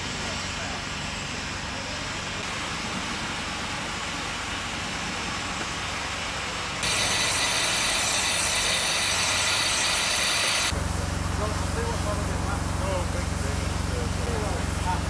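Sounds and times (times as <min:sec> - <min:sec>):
loud steady steam hiss: 0:00.0 - 0:15.0
steam engine running slowly: 0:00.0 - 0:15.0.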